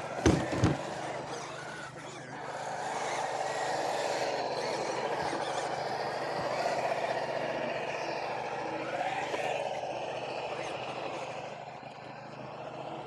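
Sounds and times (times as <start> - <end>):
rc car electric motor whining: 0.0 - 13.0.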